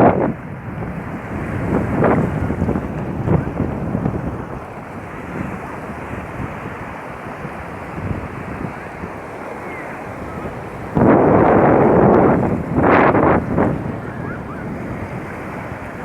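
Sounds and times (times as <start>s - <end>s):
sea waves washing on beach: 0.0s - 16.0s
wind on microphone: 0.0s - 16.0s.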